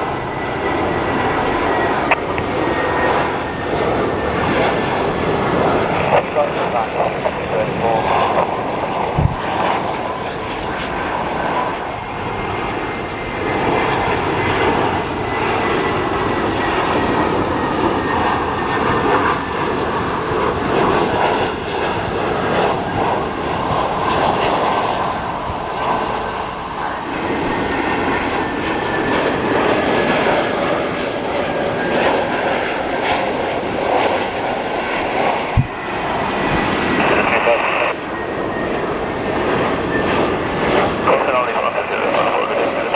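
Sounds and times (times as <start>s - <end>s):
jet airliner engines: 0.0s - 42.9s.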